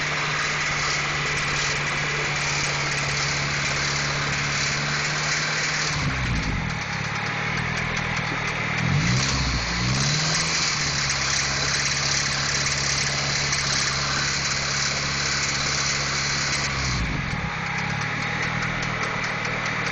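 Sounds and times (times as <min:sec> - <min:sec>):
car engine idling with a knock: 0:00.7 - 0:09.7, 0:10.3 - 0:19.9.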